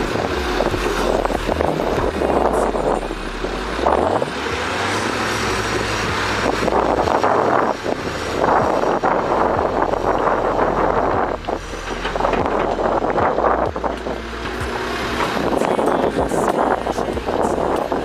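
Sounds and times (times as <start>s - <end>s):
diesel engine revving: 0.0s - 18.0s
wind noise on microphone: 0.0s - 18.0s.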